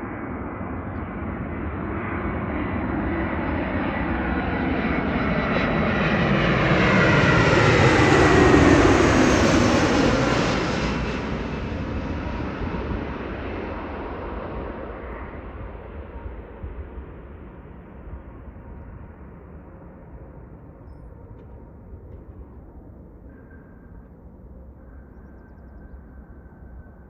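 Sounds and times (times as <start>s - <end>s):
jet engines passing by: 0.0s - 27.0s.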